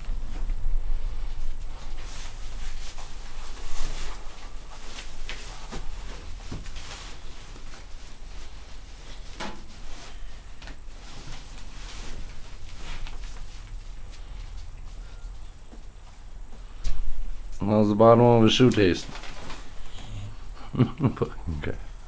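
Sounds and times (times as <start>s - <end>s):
puppies scuffling on carpet: 0.0s - 20.0s.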